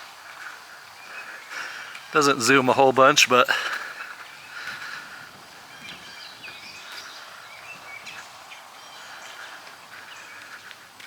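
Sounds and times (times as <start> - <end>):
birds chirping: 0.0 - 10.9
outdoor background noise: 0.0 - 11.0.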